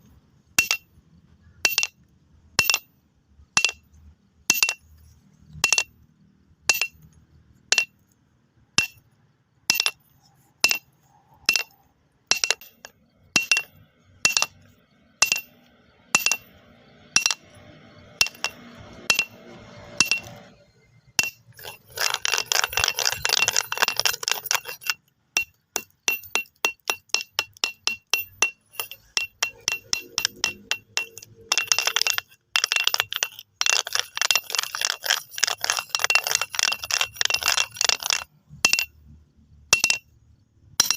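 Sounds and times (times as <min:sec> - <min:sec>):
stones clinking: 0:00.6 - 0:02.9, 0:03.6 - 0:06.0, 0:06.7 - 0:08.1, 0:08.8 - 0:09.1, 0:09.7 - 0:19.4, 0:20.0 - 0:39.0, 0:39.7 - 0:40.2.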